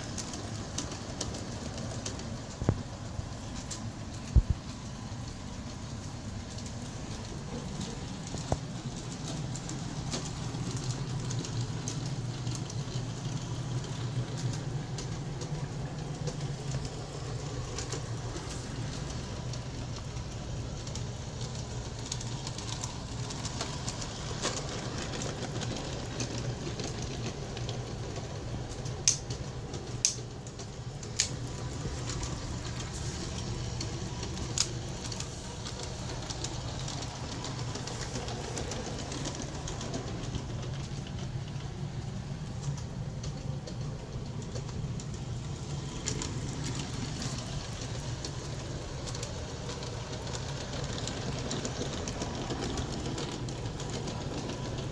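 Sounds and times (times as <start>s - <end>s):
model train motor and wheel rumble: 0.0s - 54.9s.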